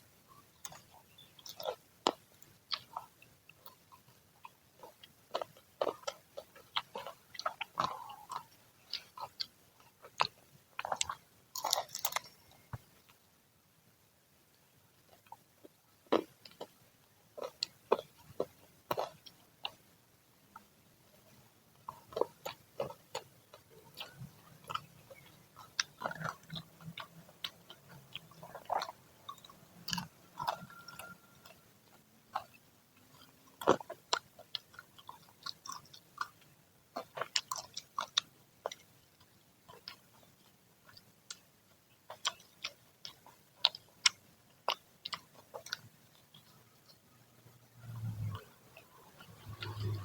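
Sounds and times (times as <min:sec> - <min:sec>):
crunching fried fritters: 0:00.0 - 0:13.2, 0:15.0 - 0:19.9, 0:20.5 - 0:50.0.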